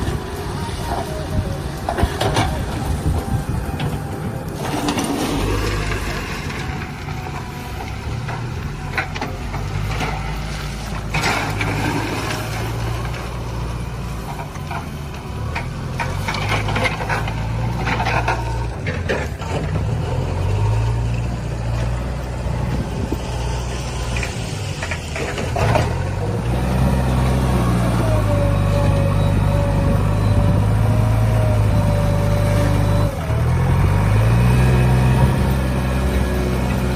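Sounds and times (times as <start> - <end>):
diesel engine revving: 0.0 - 36.9.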